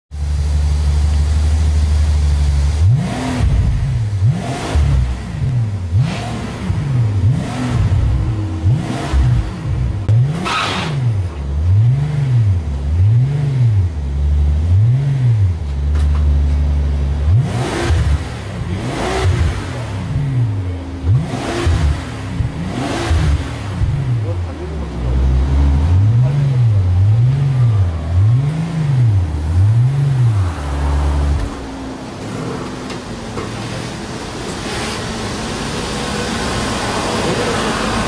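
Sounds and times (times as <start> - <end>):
car engine idling and revving: 0.1 - 38.0.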